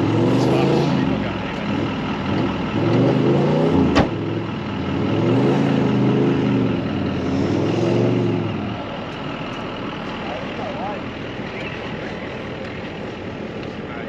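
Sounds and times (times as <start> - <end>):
engine revving under load: 0.0 - 13.1.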